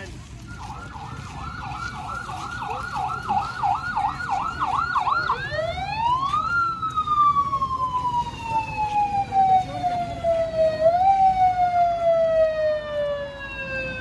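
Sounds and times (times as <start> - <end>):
electronic siren yelping and wailing: 0.6 - 14.0.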